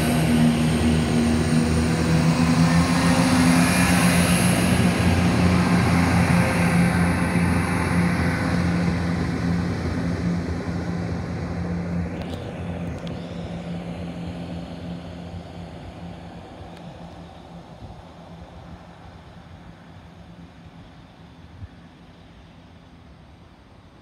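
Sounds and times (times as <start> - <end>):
wheel and rail noise: 0.0 - 20.3
train engine drone: 0.0 - 24.0.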